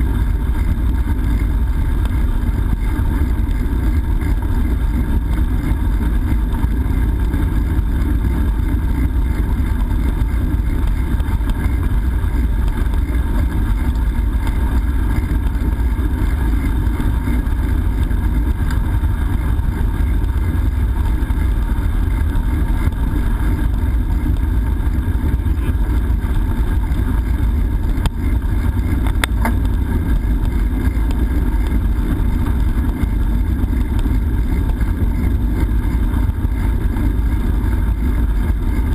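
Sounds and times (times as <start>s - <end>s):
bicycle tyre noise: 0.0s - 38.9s
wind rumble on microphone: 0.0s - 38.9s.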